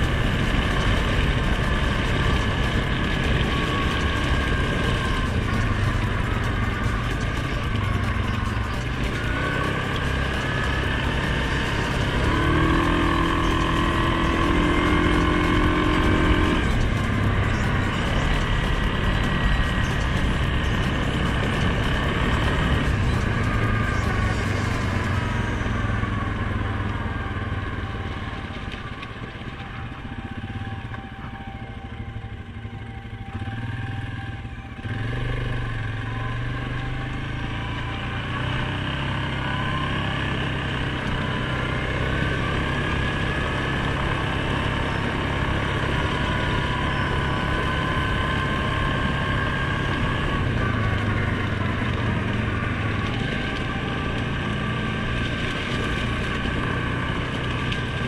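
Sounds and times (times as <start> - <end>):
atv engine accelerating: 0.0 - 58.0.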